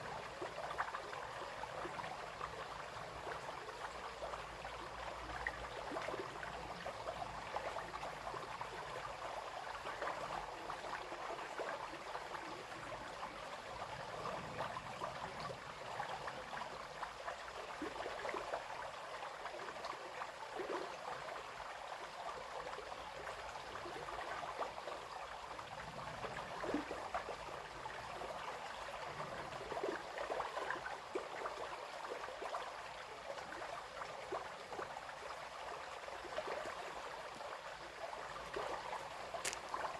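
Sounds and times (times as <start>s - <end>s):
brook flowing over stones: 0.0s - 39.9s.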